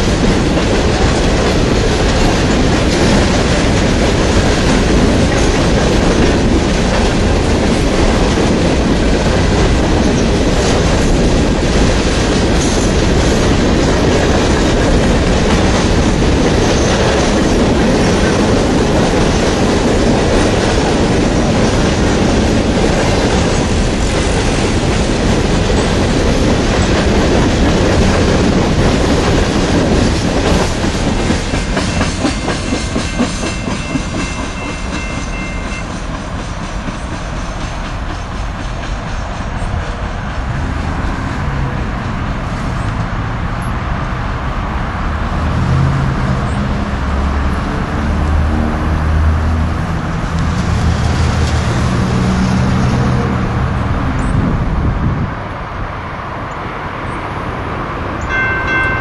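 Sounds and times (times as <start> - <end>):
freight train wheel noise: 0.0 - 59.0.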